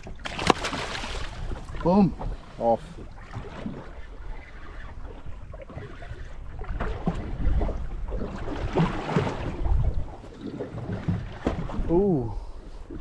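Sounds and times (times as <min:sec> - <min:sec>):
water lapping against boat hull: 0:00.0 - 0:13.0
wind rumbling on microphone: 0:00.0 - 0:13.0.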